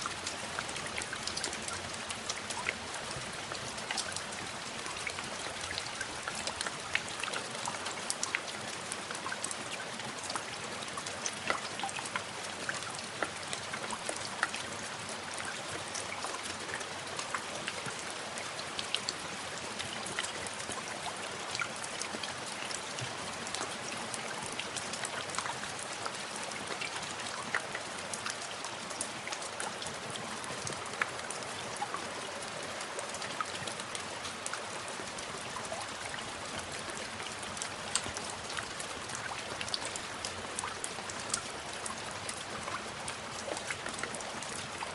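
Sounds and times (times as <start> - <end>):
rain on a hard surface: 0.0 - 44.9.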